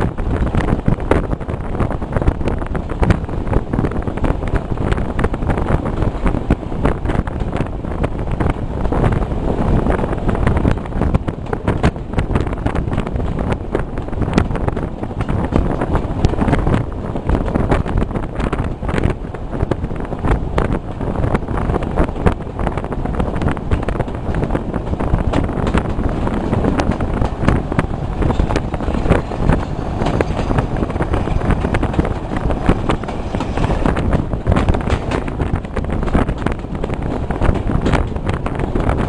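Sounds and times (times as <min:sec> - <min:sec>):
train running rumble: 0:00.0 - 0:39.0
wind buffeting microphone: 0:00.0 - 0:39.0.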